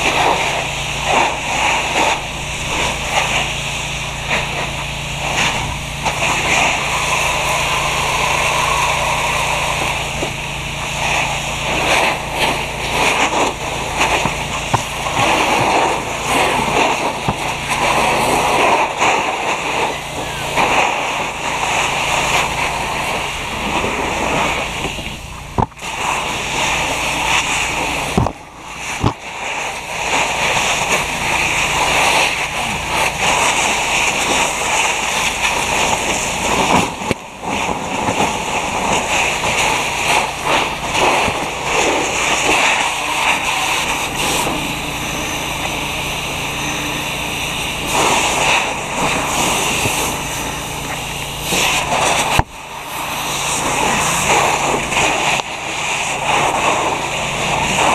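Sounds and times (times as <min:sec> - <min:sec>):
hose water spraying on car: 0:00.0 - 0:57.9.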